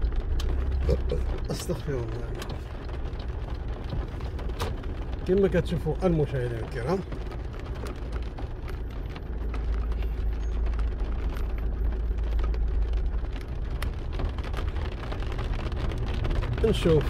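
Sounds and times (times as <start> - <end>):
car driving slowly: 0.0 - 17.0
heavy rain drumming on car roof: 0.0 - 17.0.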